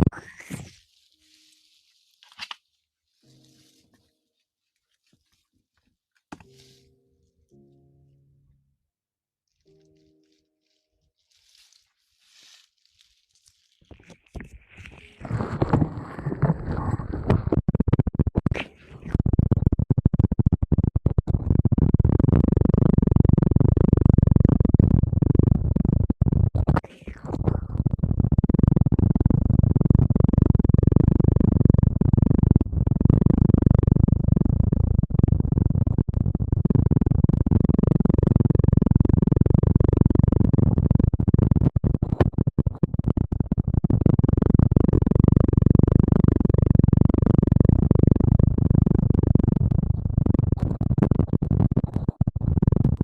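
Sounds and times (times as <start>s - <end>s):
rubbing and scratching on microphone: 0.0s - 7.0s, 9.5s - 53.0s.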